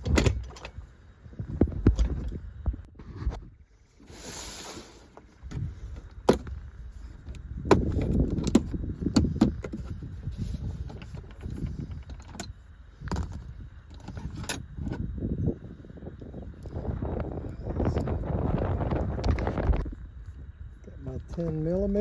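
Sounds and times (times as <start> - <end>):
rustling and rumbling handling noise: 0.0 - 22.0.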